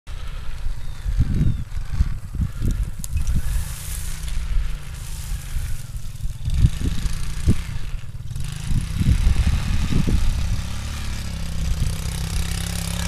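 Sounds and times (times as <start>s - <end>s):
atv engine rumble: 0.1s - 13.0s.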